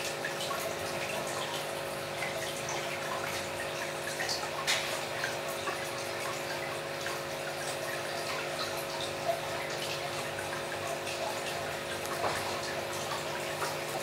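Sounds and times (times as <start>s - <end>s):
aquarium water trickling and dripping: 0.0s - 14.0s
mechanical hum: 0.0s - 14.0s.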